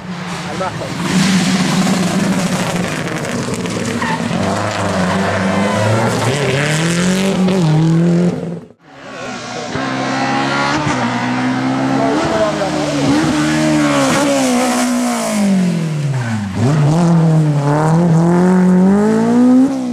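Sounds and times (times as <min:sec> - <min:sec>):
rally car engine revving: 0:00.0 - 0:19.9.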